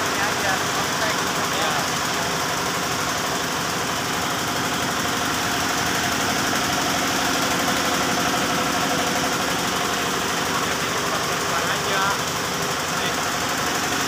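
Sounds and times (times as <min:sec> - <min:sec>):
air compressor pump: 0:00.0 - 0:14.0
diesel engine chugging: 0:00.0 - 0:14.0.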